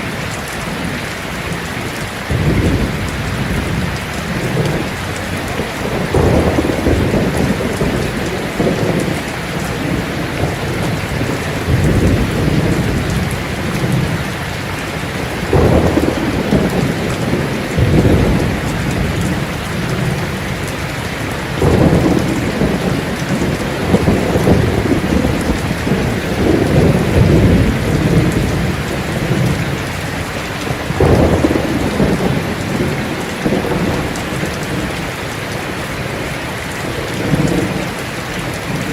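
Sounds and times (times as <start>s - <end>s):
rain on a tin roof: 0.0s - 38.9s
thunder rumbling: 0.0s - 38.9s.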